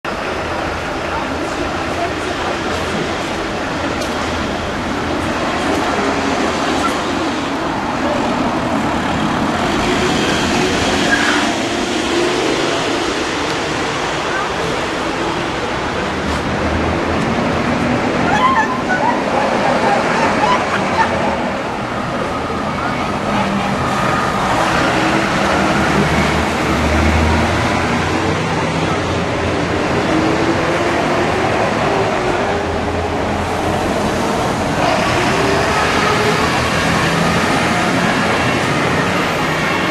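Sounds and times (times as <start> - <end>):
fire engine rumble: 0.0 - 39.9
road and traffic noise: 0.0 - 39.9.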